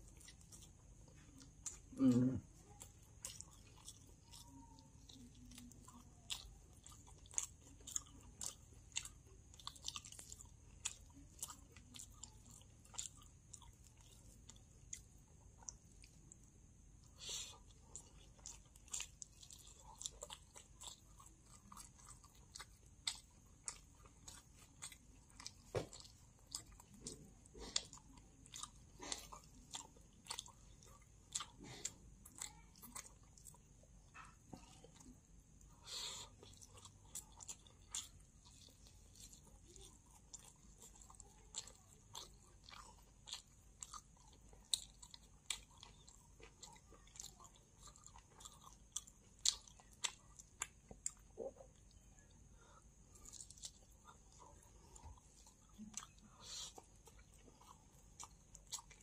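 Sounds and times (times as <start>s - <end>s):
chewing with mouth clicks: 0.0s - 59.0s.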